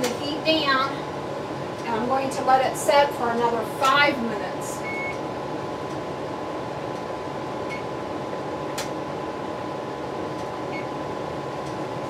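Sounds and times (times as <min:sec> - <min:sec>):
faint high hum: 0:00.0 - 0:12.0
kitchen fan whirring: 0:00.0 - 0:12.0.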